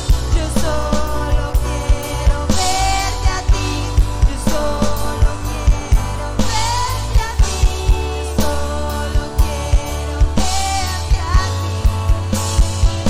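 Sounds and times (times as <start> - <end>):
drum kit beat: 0.0 - 13.0
sustained keyboard chords: 0.0 - 13.0
worship band music: 0.0 - 13.0.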